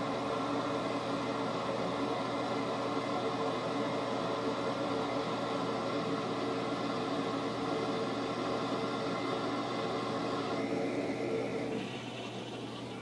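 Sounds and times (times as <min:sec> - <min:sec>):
machine whirring hum: 0:00.0 - 0:13.0.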